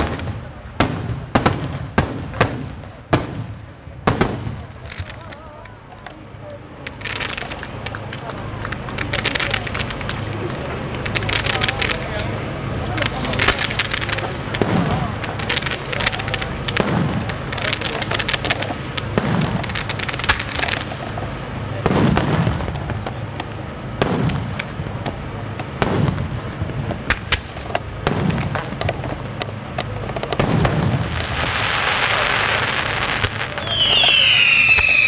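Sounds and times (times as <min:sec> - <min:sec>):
firework booms: 0:00.0 - 0:35.0
firework cracks and pops: 0:00.0 - 0:35.0
steady hiss: 0:00.0 - 0:35.0.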